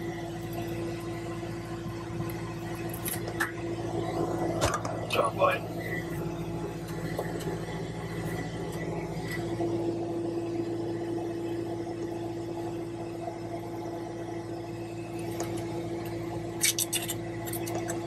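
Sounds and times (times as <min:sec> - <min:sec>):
diesel engine idling: 0:00.0 - 0:18.0
steady whine: 0:00.0 - 0:18.0.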